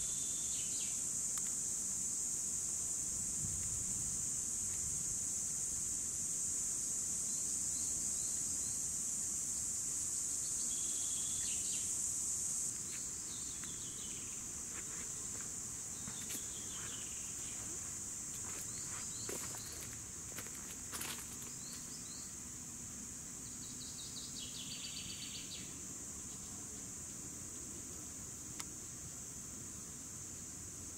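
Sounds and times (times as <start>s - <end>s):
cicadas buzzing: 0.0s - 30.9s.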